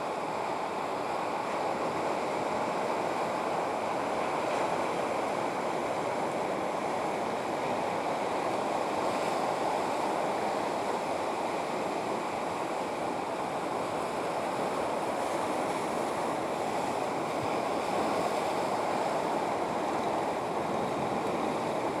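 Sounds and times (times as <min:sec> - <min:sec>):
wind: 0:00.0 - 0:22.0
sea water rushing: 0:02.2 - 0:22.0.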